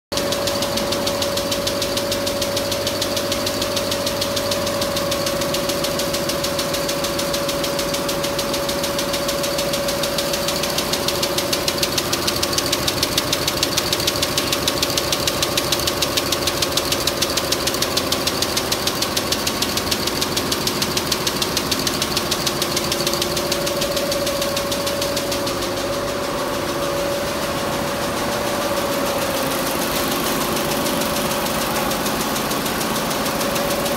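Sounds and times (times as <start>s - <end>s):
machine hum: 0.2s - 33.9s
quilting machine needle clatter: 0.2s - 33.9s.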